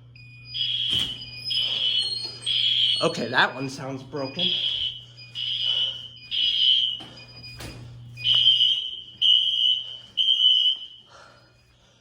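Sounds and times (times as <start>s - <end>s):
second alarm tone chirping: 0.0s - 11.8s
fire alarm beeping: 0.0s - 12.0s.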